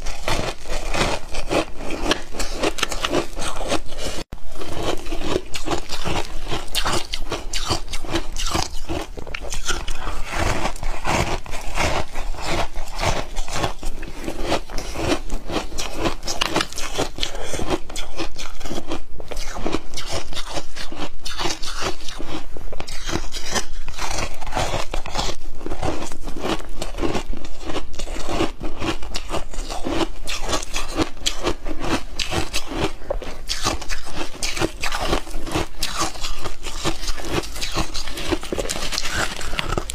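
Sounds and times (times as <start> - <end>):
chewing ice crunching: 0.0 - 39.9.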